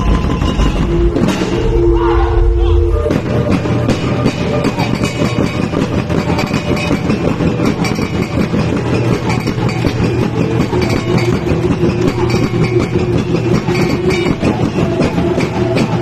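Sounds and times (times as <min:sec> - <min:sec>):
gongs beaten in fast rhythm: 0:00.0 - 0:16.0.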